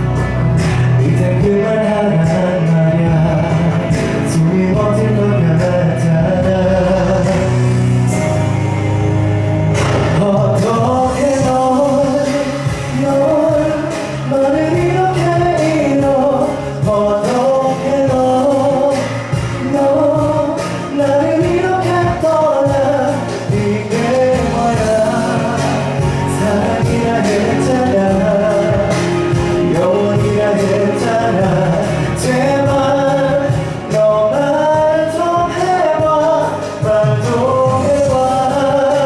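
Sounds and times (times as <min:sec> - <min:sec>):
man singing into microphone: 0:00.0 - 0:08.3, 0:09.8 - 0:39.0
amplified instrumental accompaniment: 0:00.0 - 0:39.0.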